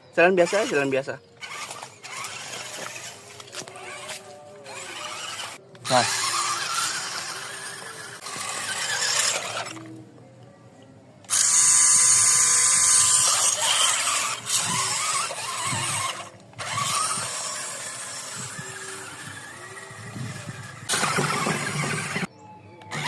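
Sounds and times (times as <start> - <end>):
toy car motor whining: 0.3 - 10.0, 11.2 - 23.0.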